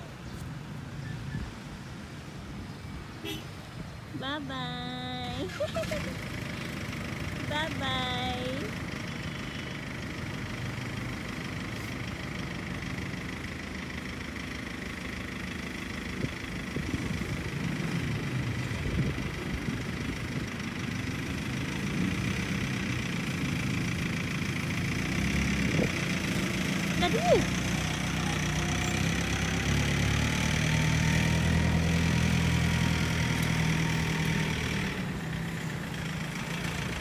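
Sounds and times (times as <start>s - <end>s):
vehicle engine running: 4.2s - 37.0s.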